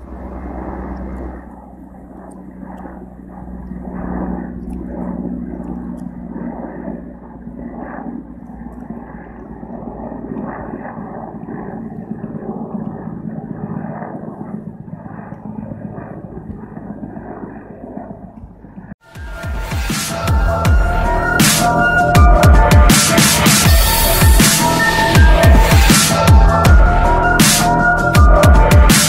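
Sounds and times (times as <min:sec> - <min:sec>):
helicopter flying overhead: 0:00.0 - 0:29.0.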